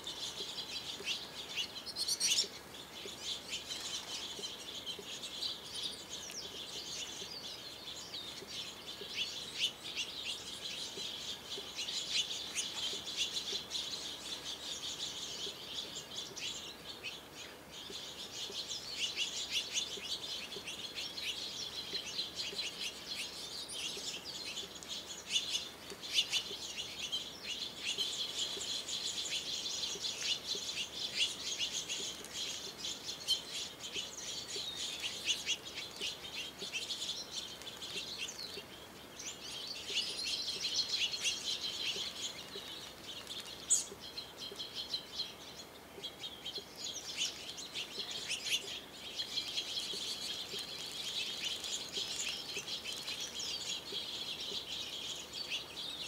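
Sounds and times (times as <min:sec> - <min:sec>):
finches chirping: 0:00.0 - 0:56.0.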